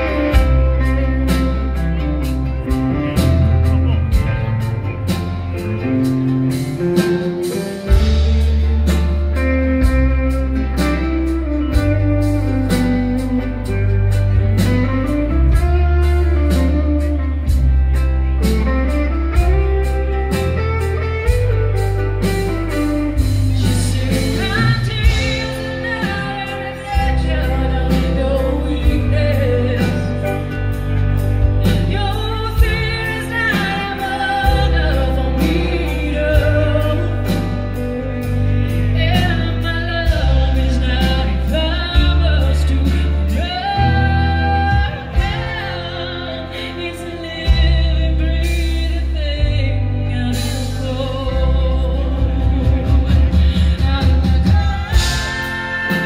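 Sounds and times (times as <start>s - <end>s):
electric guitar: 0.0s - 56.0s
heavy steady bass guitar line: 0.0s - 56.0s
person singing: 0.0s - 56.0s.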